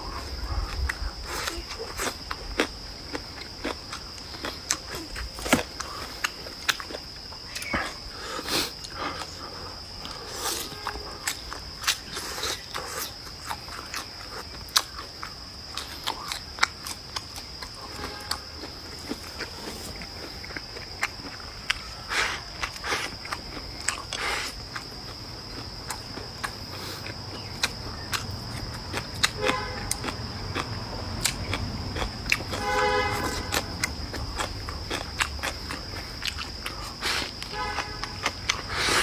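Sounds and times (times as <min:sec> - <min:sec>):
chewing and biting food: 0:00.0 - 0:39.0.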